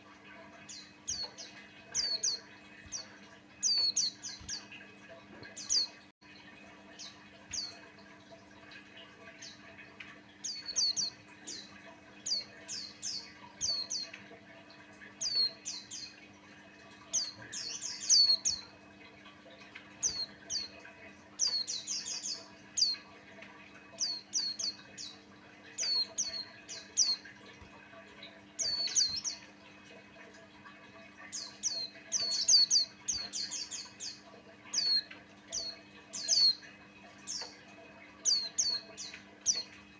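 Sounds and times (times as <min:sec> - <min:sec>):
faint low hum: 0:00.1 - 0:39.9.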